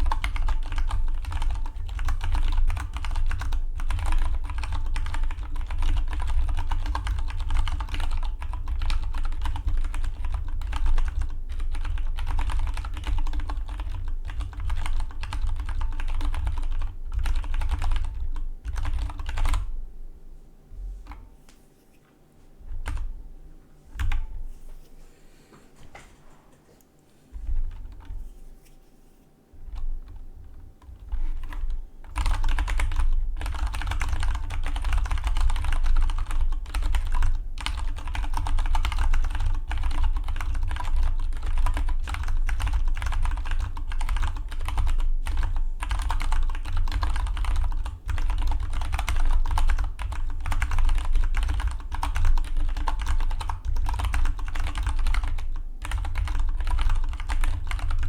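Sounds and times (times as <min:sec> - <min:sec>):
mechanical keyboard typing: 0:00.0 - 0:19.7, 0:30.8 - 0:58.0.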